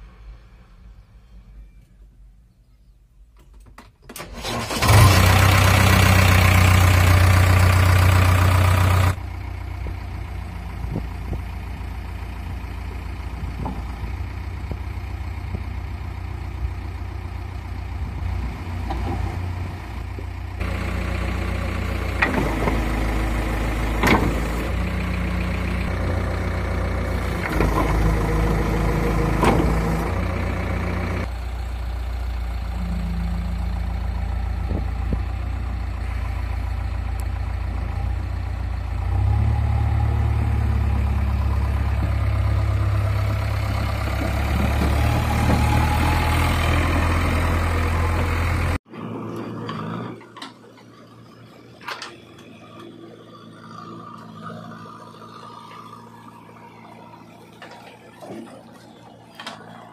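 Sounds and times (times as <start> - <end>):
diesel engine running: 4.2 - 59.9.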